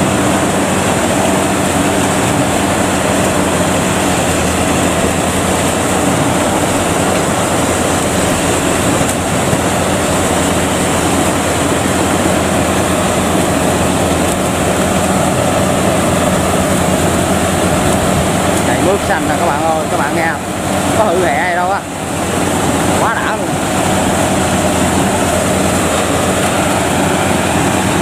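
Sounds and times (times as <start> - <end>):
combine harvester mechanical drone: 0.0 - 28.0.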